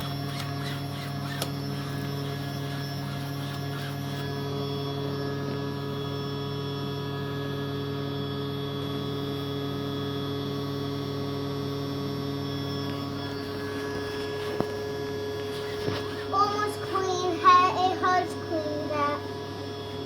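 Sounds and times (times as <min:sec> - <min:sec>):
vacuum cleaner humming: 0:00.0 - 0:20.0.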